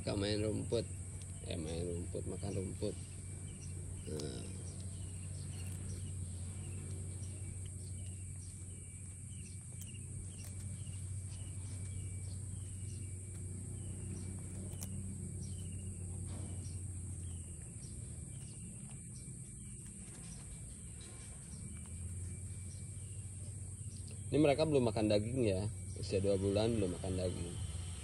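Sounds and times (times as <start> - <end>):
bird chirping: 0.0 - 28.0
high insect buzz: 0.0 - 28.0
low steady hum: 0.0 - 28.0.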